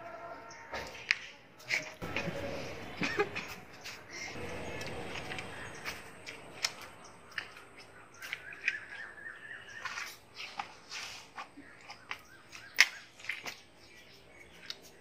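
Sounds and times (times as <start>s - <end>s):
people biting and slurping watermelon: 1.0s - 15.0s
bird calling: 2.0s - 14.7s.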